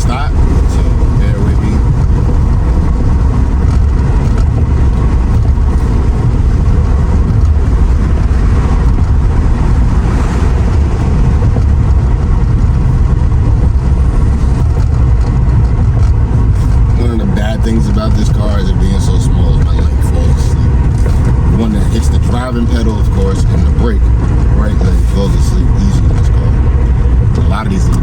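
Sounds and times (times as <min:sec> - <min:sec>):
road and wind noise in car: 0:00.0 - 0:28.0.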